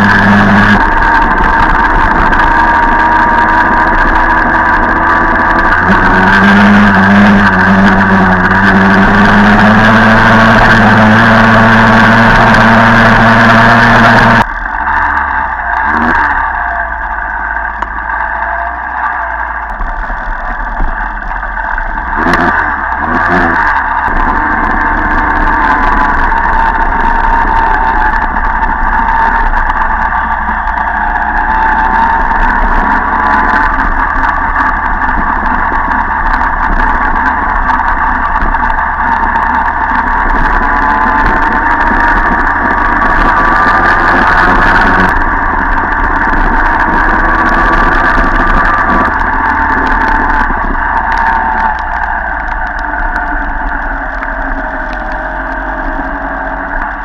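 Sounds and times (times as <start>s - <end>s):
moped engine buzzing: 0.0s - 57.0s
other mopeds riding nearby: 0.0s - 57.0s.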